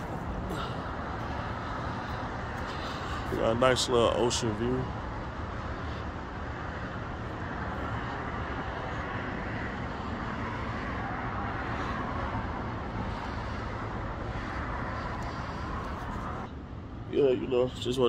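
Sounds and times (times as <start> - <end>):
cars passing on a road: 0.0 - 18.0.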